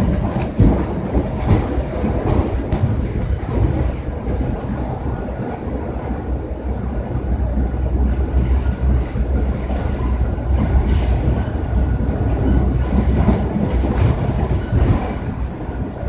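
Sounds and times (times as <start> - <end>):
rail clacks: 0.0 - 16.0
train wheels rumbling on rails: 0.0 - 16.0.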